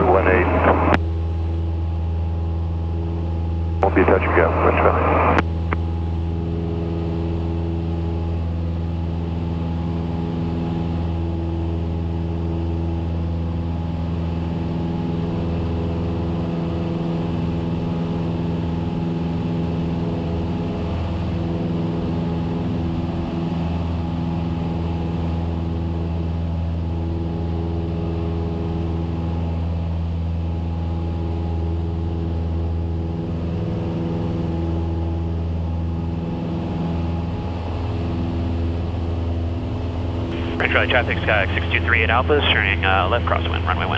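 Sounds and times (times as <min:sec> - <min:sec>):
aircraft engine and propeller drone: 0:00.0 - 0:43.9.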